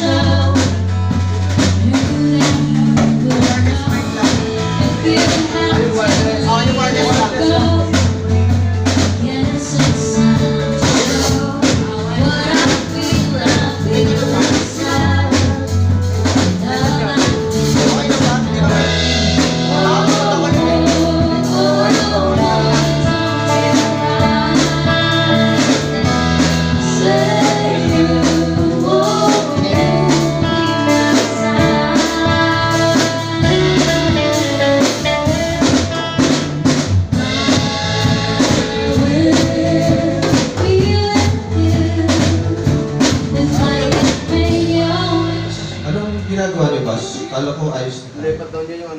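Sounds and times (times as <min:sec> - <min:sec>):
person singing: 0:00.0 - 0:01.1, 0:01.7 - 0:36.4, 0:37.1 - 0:48.1
drum kit beat: 0:00.0 - 0:48.5
bass guitar: 0:00.0 - 0:48.6.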